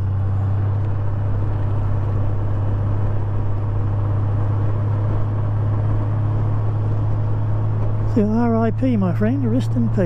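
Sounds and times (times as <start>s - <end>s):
motorcycle engine drone: 0.0s - 10.0s
wind and road noise: 0.0s - 10.0s.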